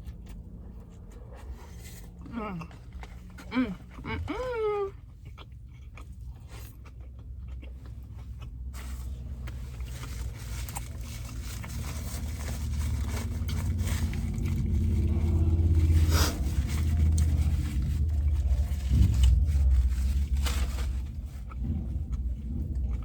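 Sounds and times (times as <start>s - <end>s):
car engine rumble: 0.0s - 23.0s.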